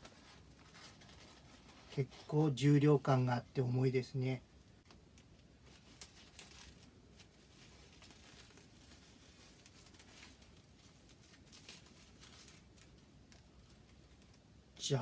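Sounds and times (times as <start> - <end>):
paper and plastic wrapping rustling: 0.0 - 3.1, 4.6 - 14.7.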